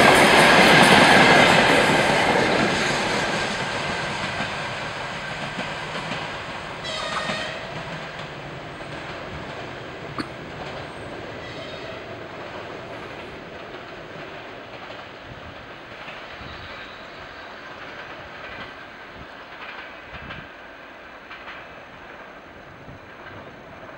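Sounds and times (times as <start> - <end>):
train wheels clicking over rail joints: 0.0 - 17.0, 17.6 - 22.3
train rumble: 0.0 - 23.9.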